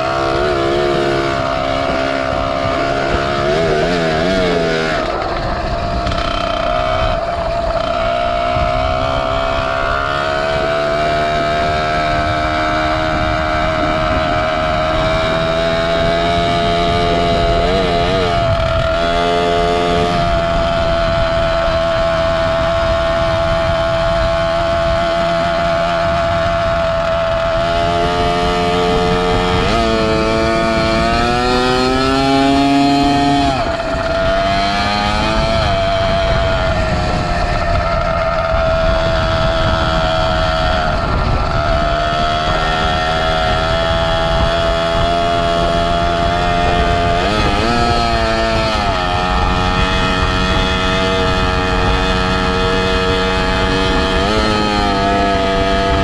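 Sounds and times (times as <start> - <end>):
two-stroke engine revving: 0.0 - 56.0
wind and road noise: 0.0 - 56.0.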